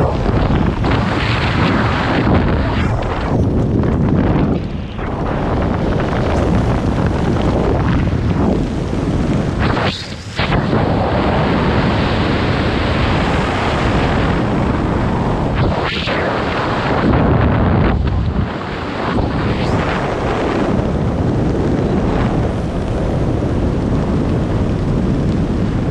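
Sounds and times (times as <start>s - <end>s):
strong wind on microphone: 0.0s - 25.9s.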